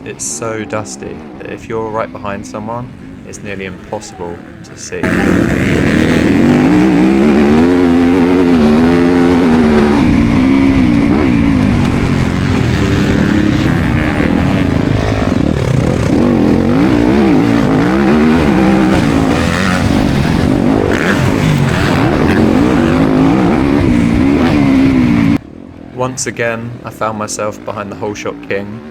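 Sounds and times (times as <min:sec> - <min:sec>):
dirt bike engine racing: 0:00.0 - 0:28.9.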